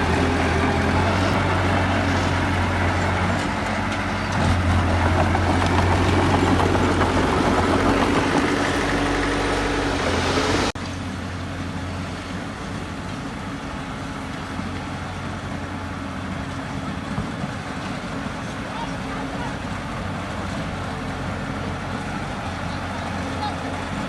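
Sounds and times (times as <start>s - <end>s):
heavy diesel engine humming: 0.0s - 24.0s.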